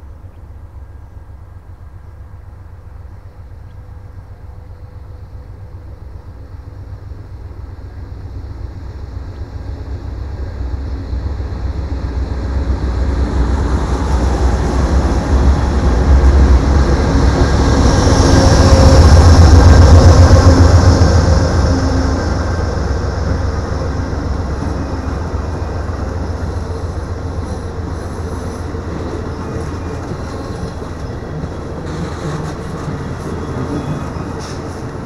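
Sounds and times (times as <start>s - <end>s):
diesel locomotive engine rumble: 0.0s - 35.0s
train wheels on rails: 0.0s - 35.0s.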